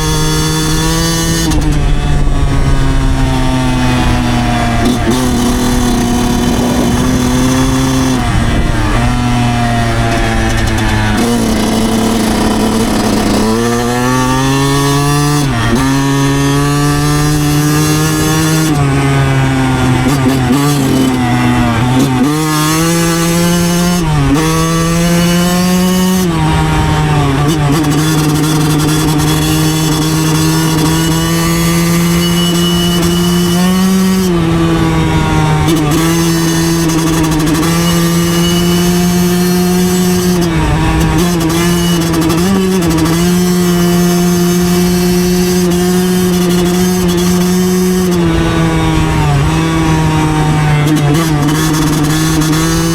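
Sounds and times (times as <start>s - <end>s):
two-stroke engine revving: 0.0s - 52.9s.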